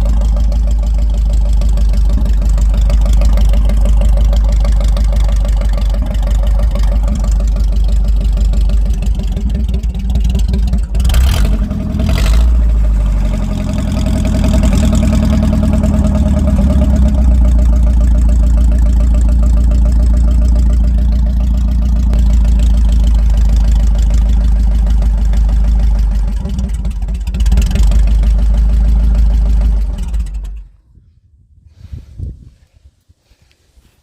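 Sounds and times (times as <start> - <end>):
van engine running: 0.0 - 30.9.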